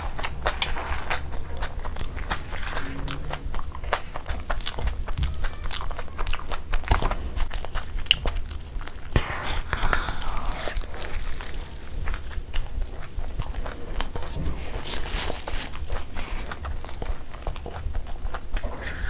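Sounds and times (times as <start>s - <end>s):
chewing mouth sounds: 0.0s - 19.0s.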